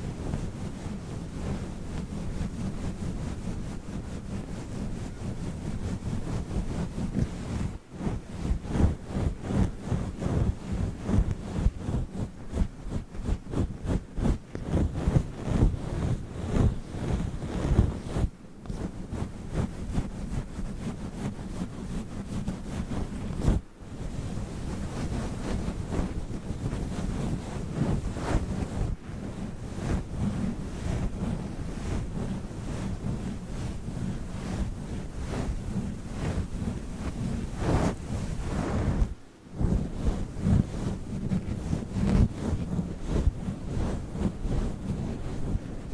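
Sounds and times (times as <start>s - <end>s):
furry cover rubbing microphone: 0.0s - 45.9s.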